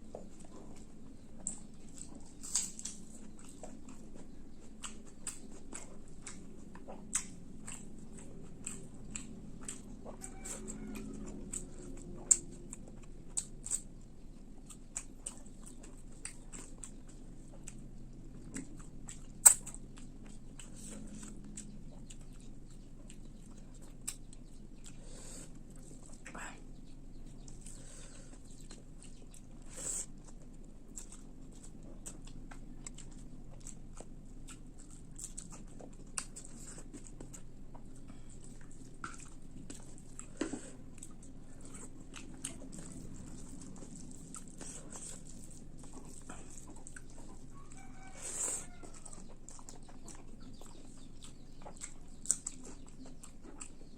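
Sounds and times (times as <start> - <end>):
wet chewing mouth clicks: 0.1 - 53.9.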